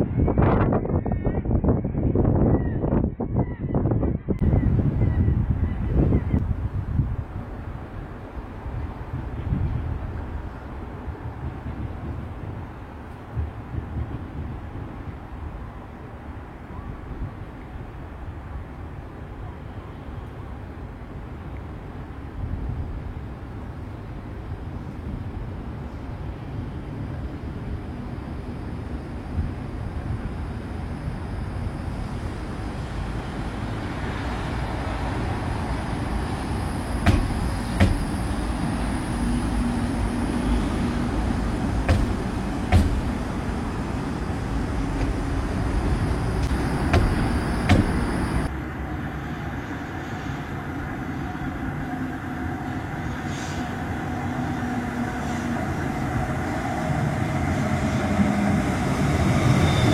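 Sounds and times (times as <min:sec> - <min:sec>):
tram rumbling along track: 0:00.0 - 0:59.9.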